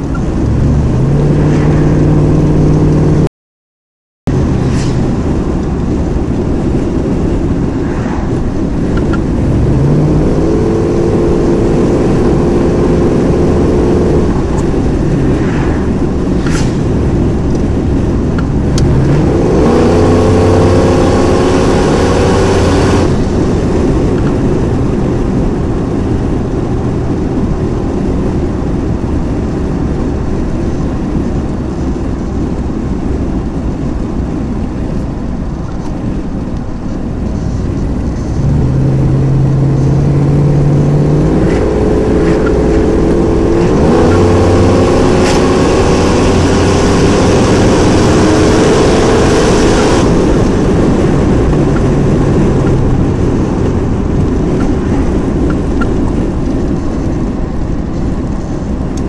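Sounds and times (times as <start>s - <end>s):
car engine and road noise: 0.0s - 3.3s, 4.3s - 59.0s.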